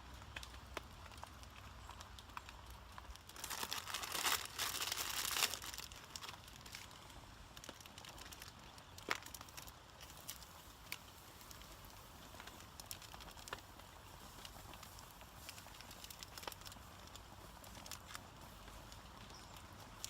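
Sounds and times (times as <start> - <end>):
small ticks and crackles: 0.0 - 20.0
crinkling rustling: 0.3 - 20.0.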